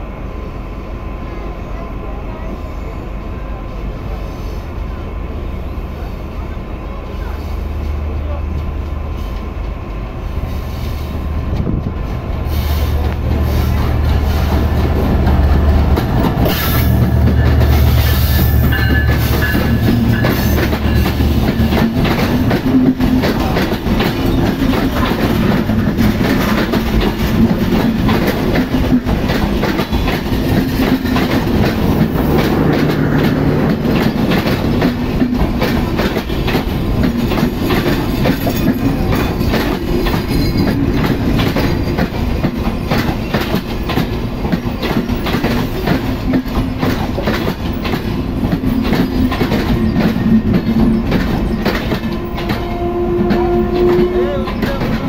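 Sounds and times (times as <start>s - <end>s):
diesel locomotive engine hum: 0.0s - 55.0s
train coaches rattling: 1.7s - 55.0s
train wheels clickety-clack: 7.2s - 9.8s, 10.5s - 55.0s.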